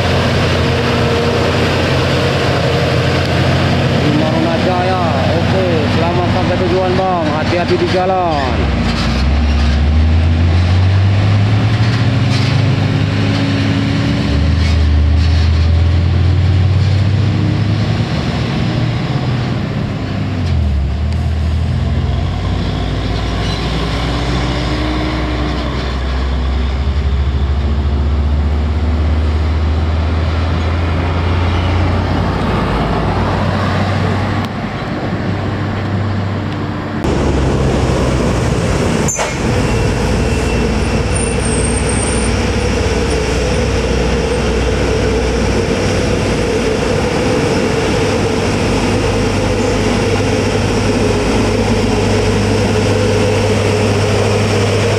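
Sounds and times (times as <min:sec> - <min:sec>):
truck diesel engine labouring: 0:00.0 - 0:54.9.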